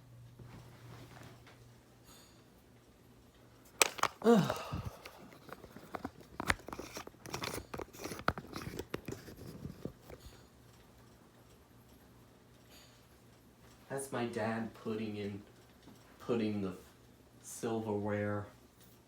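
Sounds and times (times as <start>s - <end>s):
ceiling fan humming: 0.0s - 19.0s.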